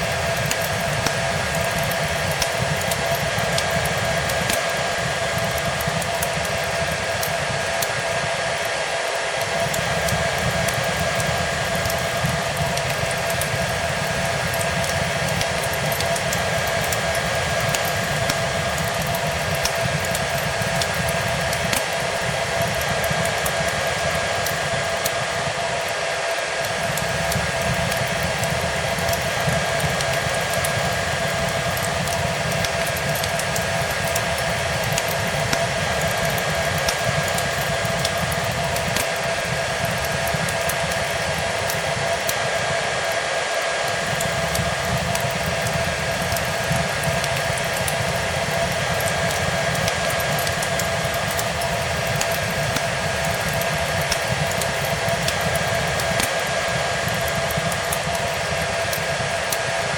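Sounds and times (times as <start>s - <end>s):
fireplace fire crackling: 0.0s - 59.9s
hair dryer running: 0.0s - 59.9s.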